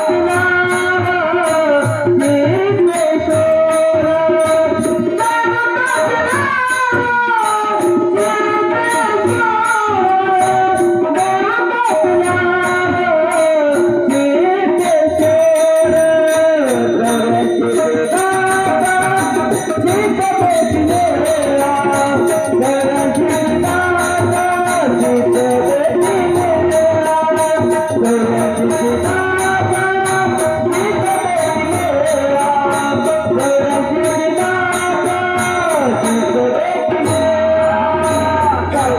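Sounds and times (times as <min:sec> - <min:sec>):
devotional singing melody: 0:00.0 - 0:38.9
hand drum: 0:00.0 - 0:38.9.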